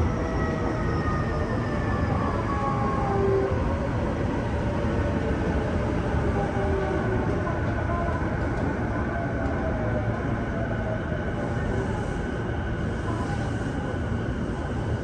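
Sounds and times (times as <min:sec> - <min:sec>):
train wheel and rail rumble: 0:00.0 - 0:15.0.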